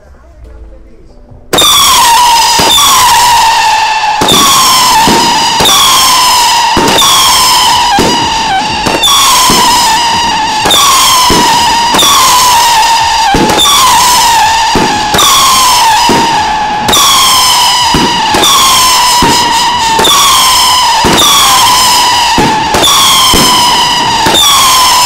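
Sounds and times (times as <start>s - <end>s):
whistling firework shots: 1.5s - 25.0s.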